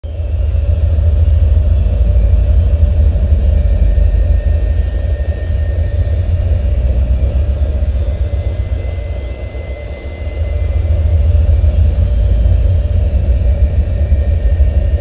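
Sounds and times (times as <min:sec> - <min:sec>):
deep rumbling noise: 0:00.0 - 0:15.0.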